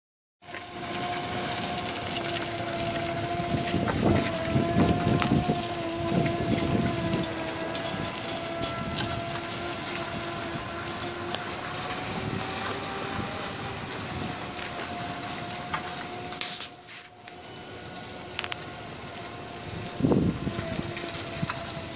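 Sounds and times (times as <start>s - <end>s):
road train driving by: 0.4s - 21.9s
steady whine: 0.5s - 21.9s.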